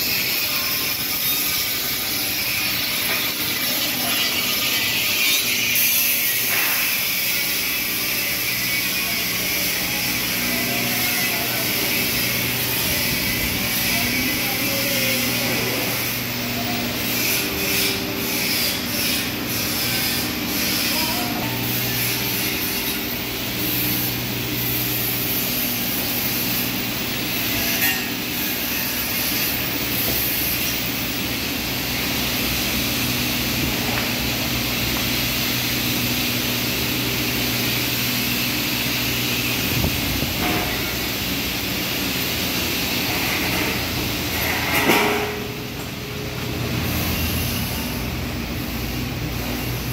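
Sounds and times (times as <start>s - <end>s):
air blowers hissing: 0.0s - 49.9s
factory machinery drone: 0.0s - 49.9s.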